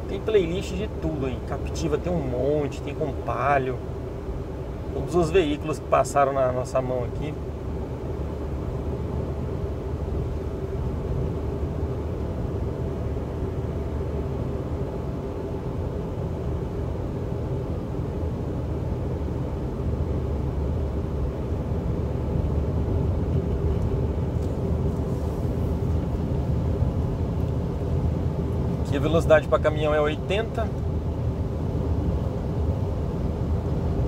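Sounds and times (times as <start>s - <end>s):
car engine and tyre noise: 0.0s - 34.0s.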